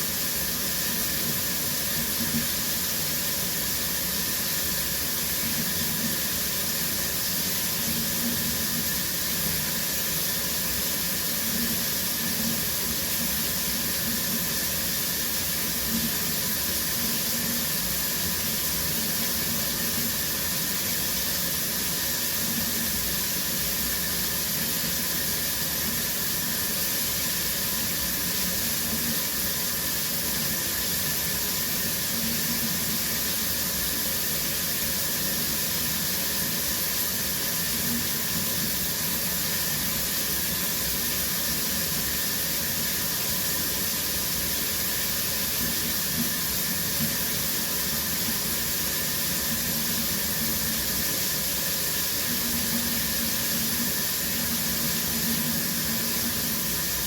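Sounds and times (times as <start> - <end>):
shower water hissing: 0.0 - 57.0.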